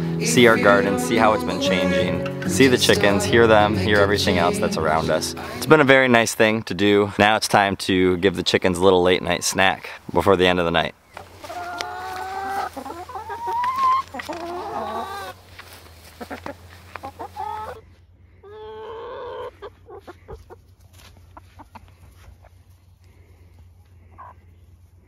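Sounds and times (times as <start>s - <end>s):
chickens clucking and squawking: 0.0s - 25.0s.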